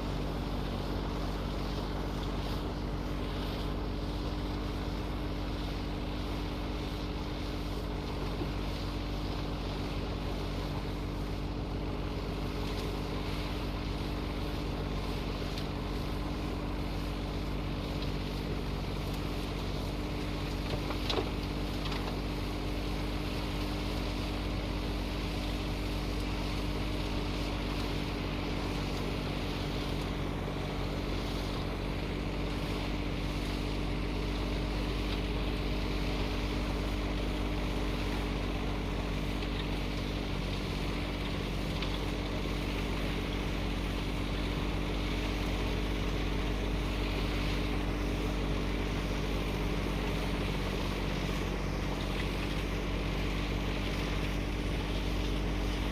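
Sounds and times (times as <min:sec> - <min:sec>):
tractor engine droning: 0:00.0 - 0:55.9.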